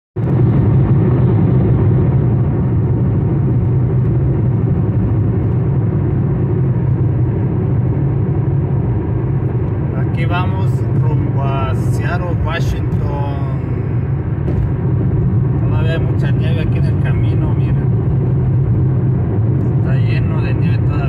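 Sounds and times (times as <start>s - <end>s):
road and engine rumble inside car: 0.2s - 21.0s.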